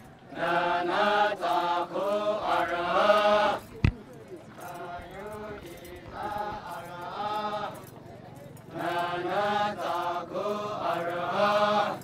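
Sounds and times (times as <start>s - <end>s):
men chanting in unison: 0.3s - 3.6s, 4.6s - 7.8s, 8.7s - 12.0s.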